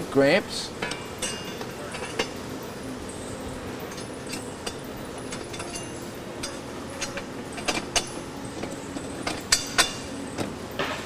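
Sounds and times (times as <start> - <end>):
metal parts clicking and clinking: 0.8 - 11.0.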